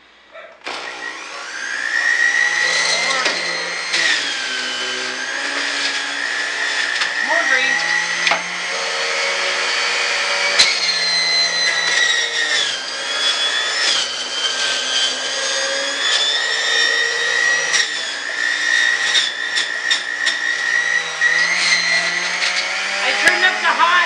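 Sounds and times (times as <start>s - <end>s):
juicer motor whine: 0.6s - 24.0s.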